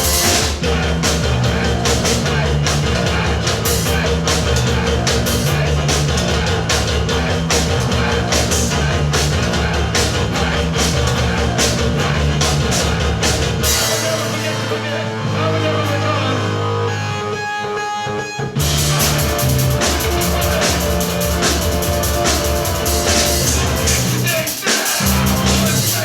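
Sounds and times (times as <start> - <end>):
drum kit beating fast: 0.0 - 15.1, 18.6 - 26.0
rock band playing: 0.0 - 26.0.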